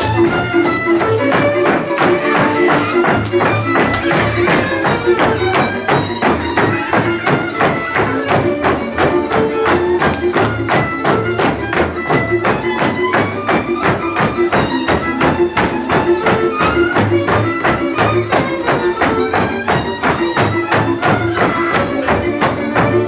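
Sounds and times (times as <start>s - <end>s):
lively folk dance music: 0.0s - 23.0s.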